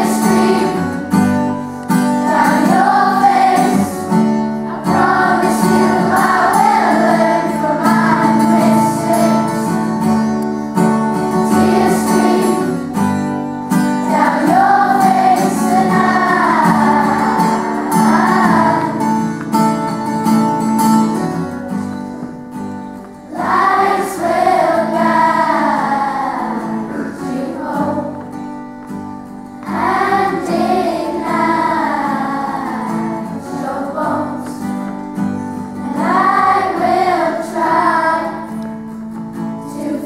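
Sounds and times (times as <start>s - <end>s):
children's choir singing: 0.0s - 22.6s, 23.2s - 28.7s, 29.4s - 40.0s
acoustic guitar chords: 0.0s - 40.0s.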